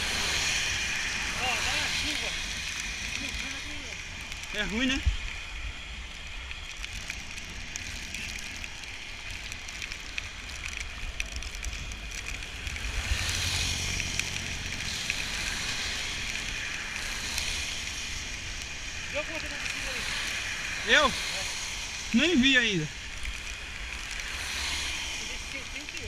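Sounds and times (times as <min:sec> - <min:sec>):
rain hiss on wet road: 0:00.0 - 0:26.0
wind rumbling on microphone: 0:00.0 - 0:26.0.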